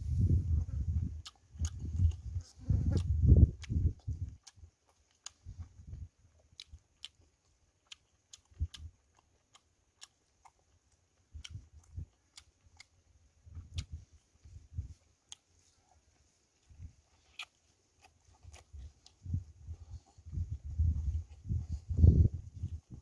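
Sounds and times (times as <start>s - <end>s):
chewing and biting: 0.2s - 23.0s.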